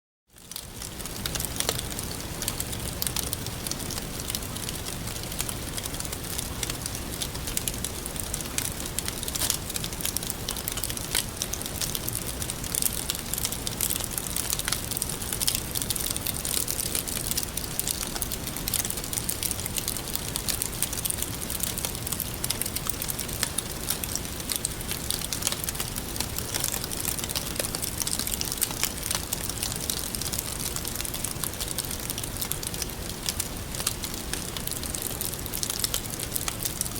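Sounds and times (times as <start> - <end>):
wood fire crackling: 0.4 - 36.9
fire popping: 0.8 - 36.8.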